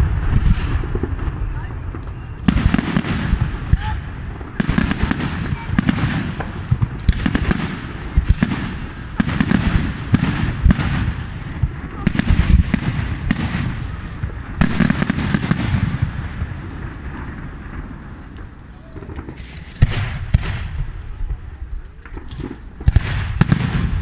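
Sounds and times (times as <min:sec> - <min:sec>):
fireworks bursting with bangs: 0:00.0 - 0:24.0
fireworks crackling: 0:00.0 - 0:24.0.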